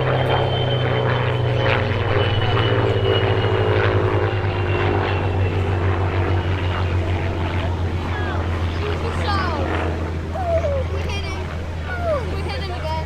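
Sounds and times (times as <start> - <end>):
propeller plane engine running: 0.0 - 13.0.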